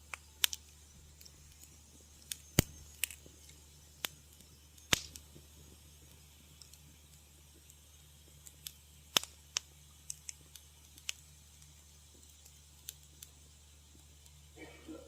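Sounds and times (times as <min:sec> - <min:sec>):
faint low hum: 0:00.0 - 0:15.0
wood fire crackling: 0:00.0 - 0:15.0.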